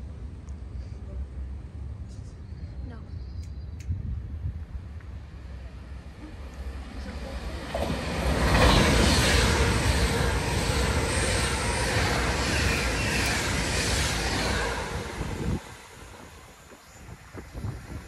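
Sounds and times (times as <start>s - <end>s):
express train passing at speed: 0.0s - 18.0s.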